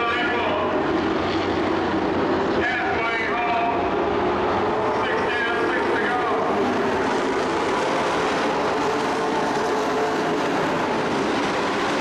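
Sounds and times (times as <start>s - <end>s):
racing truck engines: 0.0s - 12.0s.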